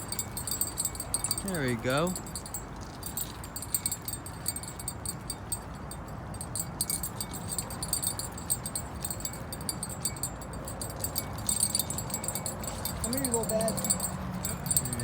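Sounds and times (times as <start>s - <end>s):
metallic clicking and tinkling: 0.0s - 15.0s.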